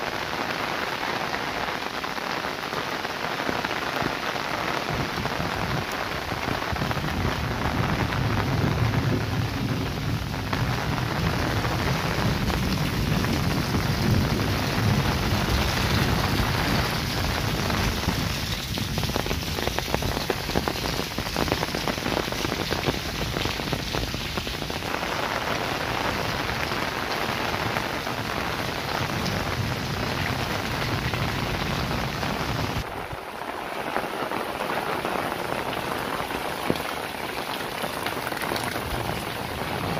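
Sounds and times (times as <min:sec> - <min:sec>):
rain spattering on concrete: 0:00.0 - 0:39.9.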